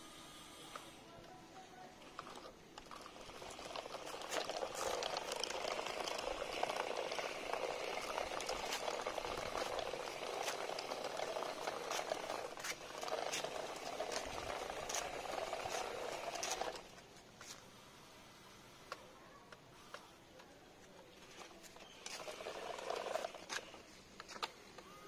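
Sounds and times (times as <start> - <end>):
toy tractor motor and wheels crackling: 0.0 - 17.6, 21.2 - 25.0.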